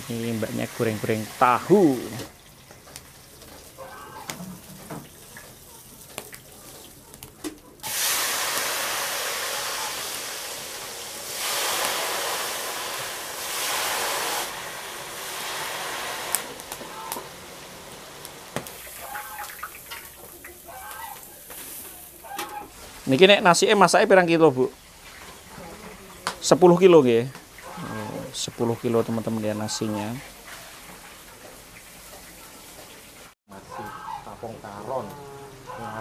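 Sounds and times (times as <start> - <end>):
tofu deep-frying in oil: 0.0 - 33.4.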